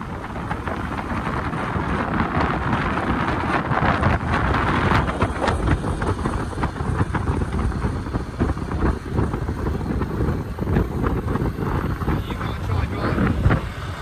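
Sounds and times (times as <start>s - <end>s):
moped engine: 0.0s - 14.0s
wind buffeting microphone: 0.0s - 14.0s.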